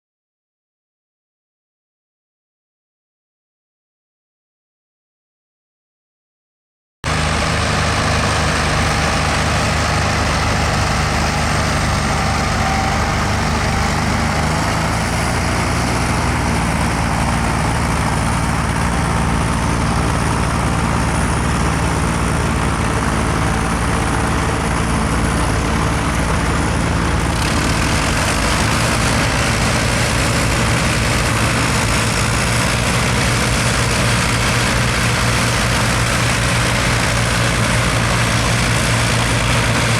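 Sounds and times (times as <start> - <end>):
diesel tractor engine running: 7.0 - 39.9.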